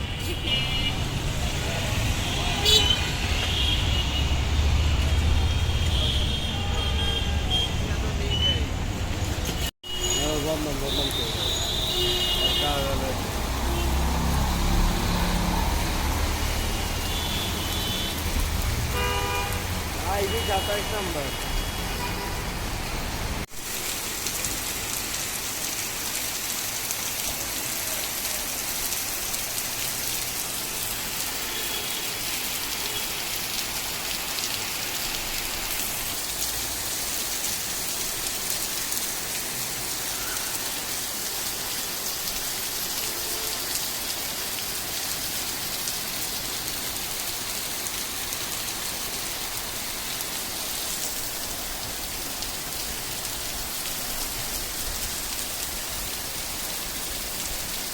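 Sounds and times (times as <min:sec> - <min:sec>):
heavy rain drumming: 0:00.0 - 0:57.9.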